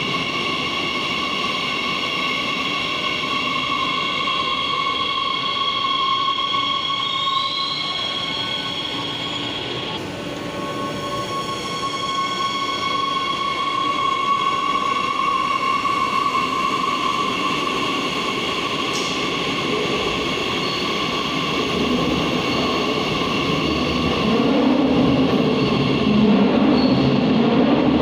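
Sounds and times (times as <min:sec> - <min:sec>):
train high whine: 0:00.0 - 0:28.0.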